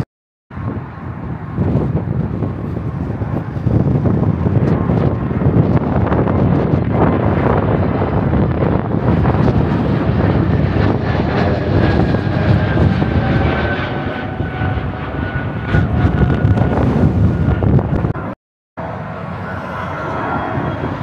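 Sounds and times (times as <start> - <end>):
jet airliner climbing overhead: 0.0 - 21.0.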